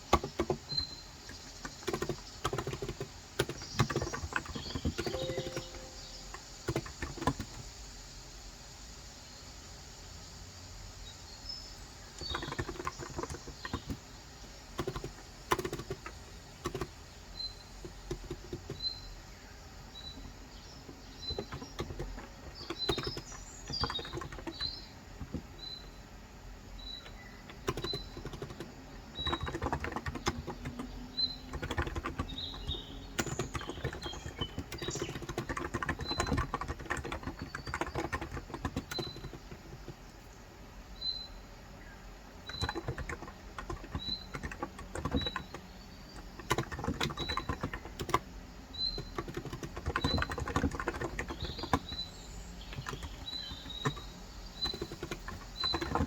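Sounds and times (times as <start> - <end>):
bird chirping: 0.0 - 7.6, 16.6 - 26.1, 26.7 - 56.0
keyboard typing: 0.0 - 7.6, 12.2 - 14.0, 14.7 - 17.0, 17.8 - 18.9, 20.8 - 25.8, 26.8 - 40.2, 42.4 - 56.0.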